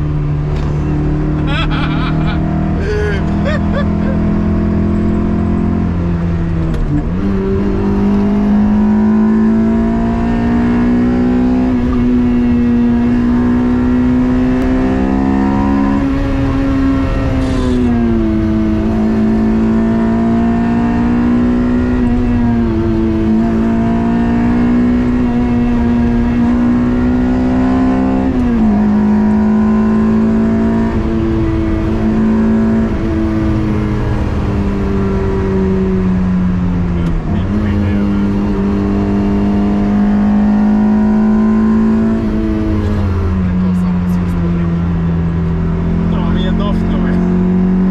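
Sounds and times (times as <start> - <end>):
car engine revving hard: 0.0 - 47.9.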